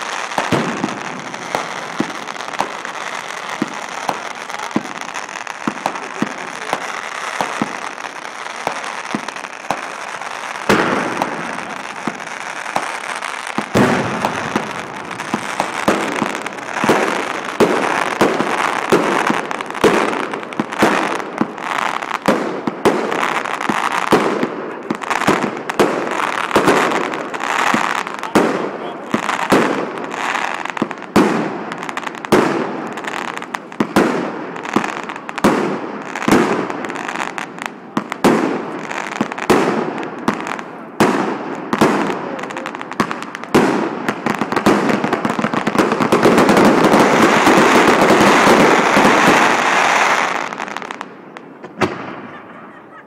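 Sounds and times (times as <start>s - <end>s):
fireworks bangs and pops: 0.0s - 52.8s
fireworks crackling: 0.0s - 53.0s.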